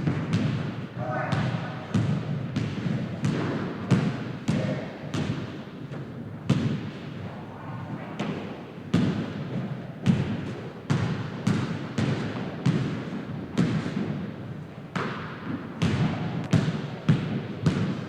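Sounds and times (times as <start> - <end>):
basketball bouncing on hard court: 0.0 - 5.6, 6.4 - 7.0, 8.2 - 14.3, 14.9 - 18.0.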